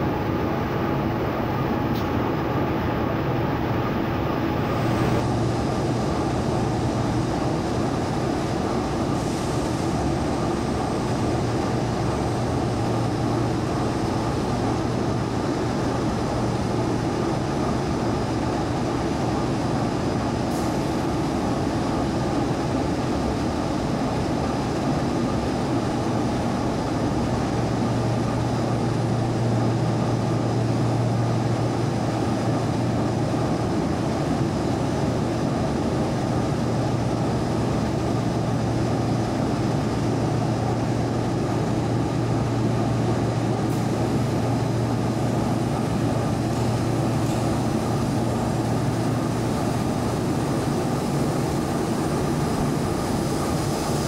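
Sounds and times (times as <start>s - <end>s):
machinery drone with low hum: 0.0s - 54.0s.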